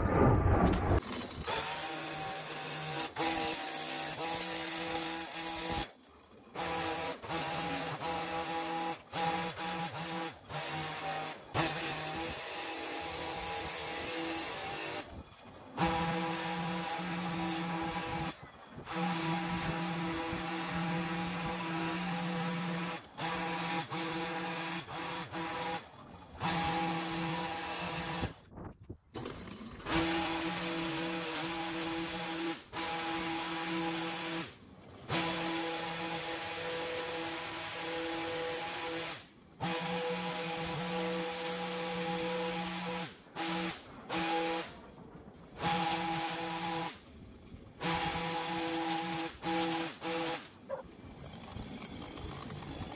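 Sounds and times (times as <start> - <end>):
electric garden tool motor whining: 1.0 - 52.9.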